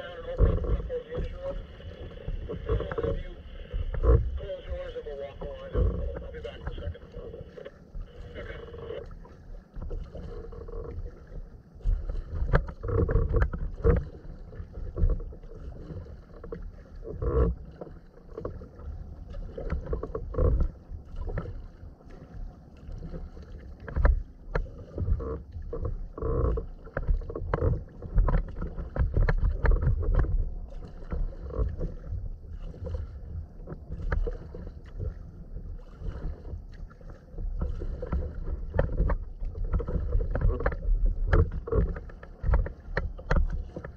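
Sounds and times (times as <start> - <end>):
paddle splashes: 0.0 - 43.9
water sloshing against hull: 0.0 - 43.9.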